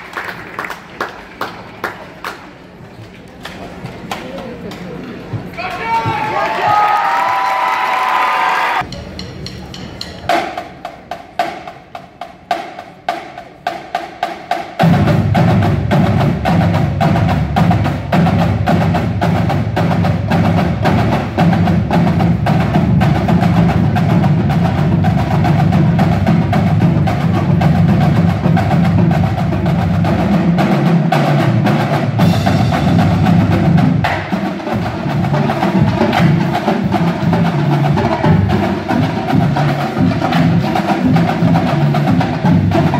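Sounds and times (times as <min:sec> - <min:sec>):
drumline drumming: 0:05.2 - 0:42.9.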